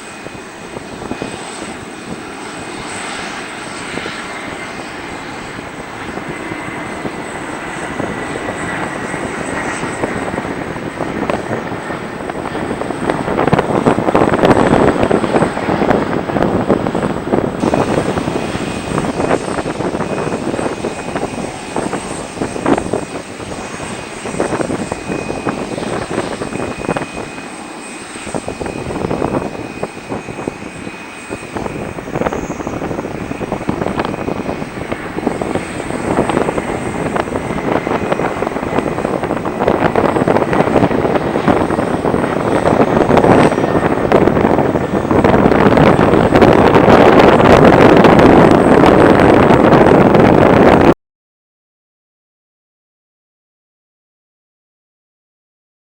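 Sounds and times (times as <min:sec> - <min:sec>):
jet engines passing: 0:00.0 - 0:51.0.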